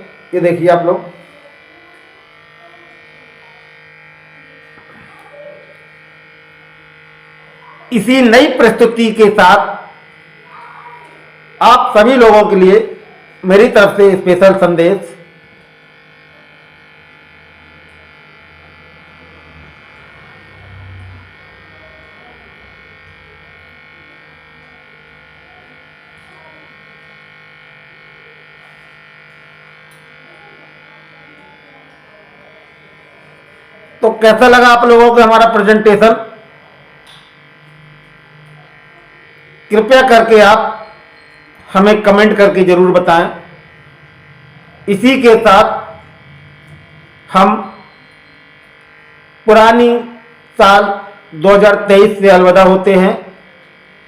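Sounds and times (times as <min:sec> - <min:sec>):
air pump motor hum: 0:00.0 - 0:54.0.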